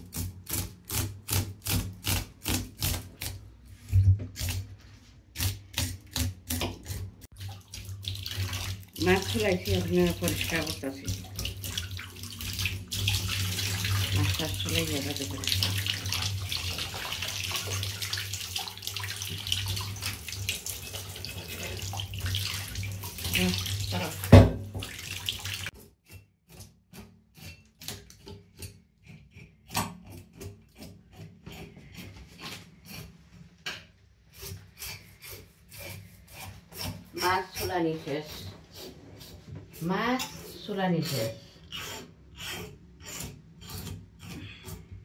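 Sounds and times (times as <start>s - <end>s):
shower water running on fish: 0.0s - 25.8s, 34.4s - 44.8s.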